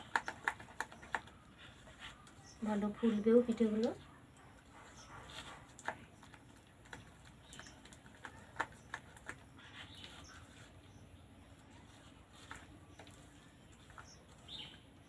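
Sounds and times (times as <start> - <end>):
fingers kneading dough in steel bowl: 0.0 - 15.0.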